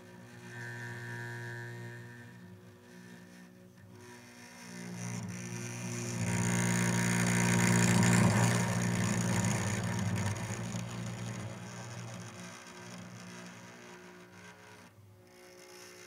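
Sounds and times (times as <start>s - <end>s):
cello bowed drone: 0.0s - 16.0s.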